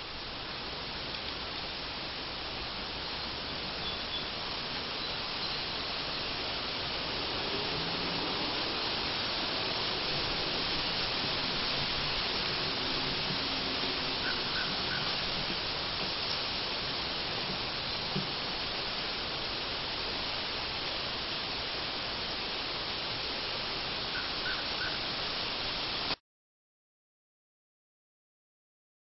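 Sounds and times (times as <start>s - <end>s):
woodland ambience hiss: 0.0s - 26.2s.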